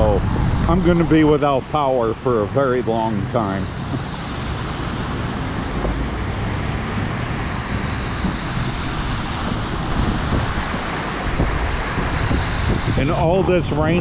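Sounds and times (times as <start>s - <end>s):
car tyres spraying through water: 0.0s - 14.0s
wind buffeting microphone: 0.0s - 14.0s.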